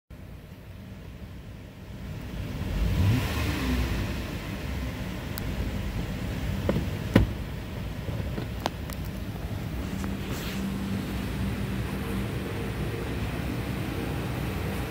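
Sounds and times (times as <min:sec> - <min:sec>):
car engine idling: 0:00.1 - 0:14.9.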